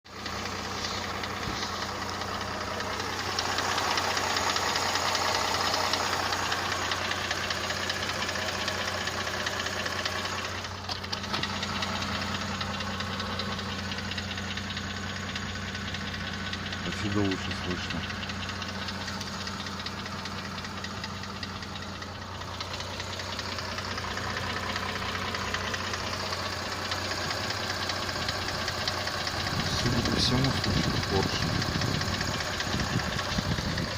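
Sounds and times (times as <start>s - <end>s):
car engine knocking: 0.1s - 33.9s.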